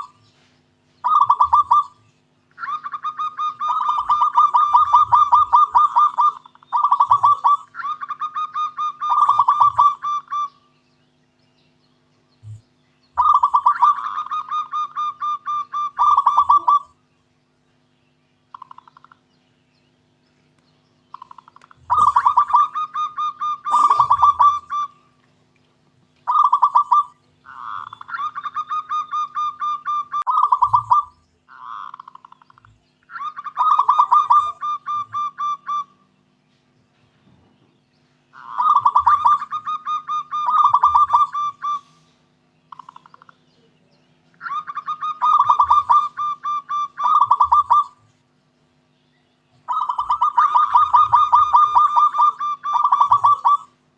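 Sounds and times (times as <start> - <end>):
dove cooing: 0.0 - 10.6, 13.2 - 17.0, 18.5 - 19.3, 21.1 - 25.3, 26.1 - 36.1, 38.3 - 48.2, 49.6 - 53.8.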